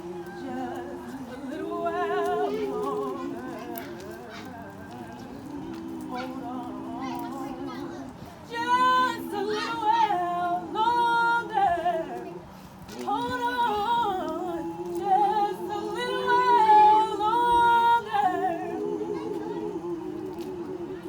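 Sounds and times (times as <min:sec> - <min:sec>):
woman singing with vibrato: 0:00.0 - 0:21.0.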